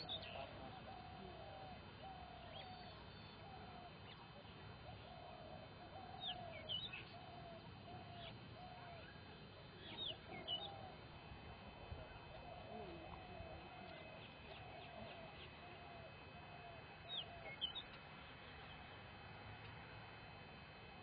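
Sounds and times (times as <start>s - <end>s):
birds calling: 0.0s - 19.1s.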